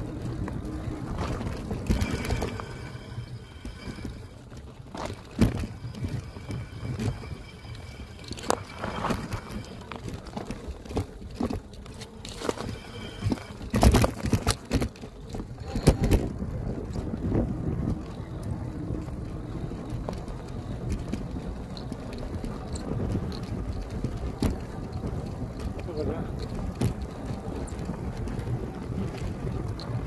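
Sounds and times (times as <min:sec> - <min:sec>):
bike tyres rumbling off-road: 0:00.0 - 0:30.0
bike knocking and rattling: 0:04.0 - 0:30.0.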